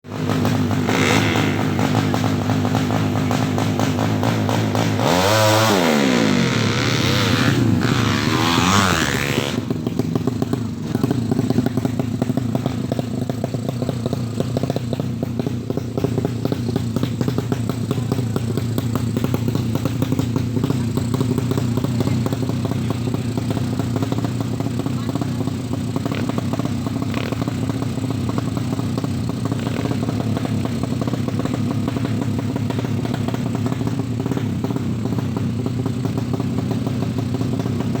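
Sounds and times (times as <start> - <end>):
choppy motorcycle engine: 0.0 - 38.0.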